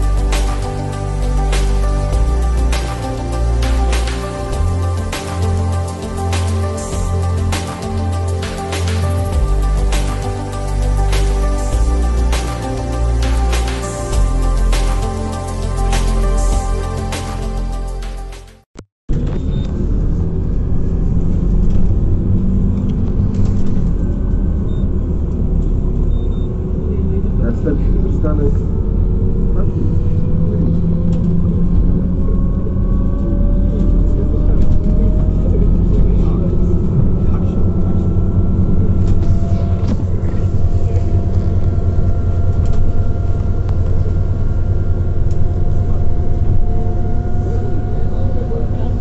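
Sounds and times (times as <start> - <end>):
bus engine rumble: 0.0 - 18.4, 19.1 - 49.0.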